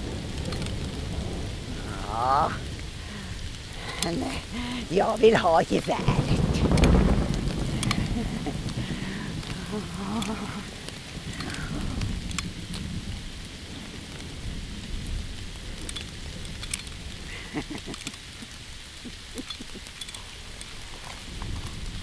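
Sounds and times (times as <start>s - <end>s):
low rumble: 0.0s - 22.0s
sharp drips and ticks: 0.0s - 22.0s
steady rain falling: 0.0s - 22.0s.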